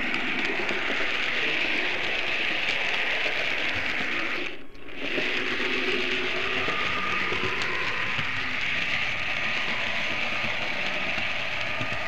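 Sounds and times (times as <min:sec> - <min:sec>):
model train wheels rattling: 0:00.0 - 0:12.0.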